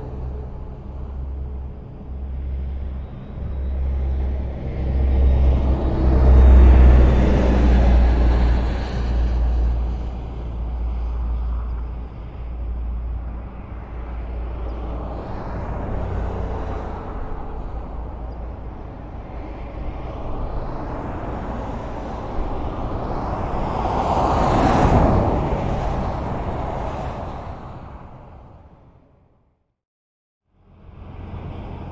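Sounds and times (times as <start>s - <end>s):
deep rumble: 0.0s - 28.8s
vehicle passing close: 0.0s - 28.9s
highway traffic passing: 0.0s - 29.4s, 30.6s - 31.9s.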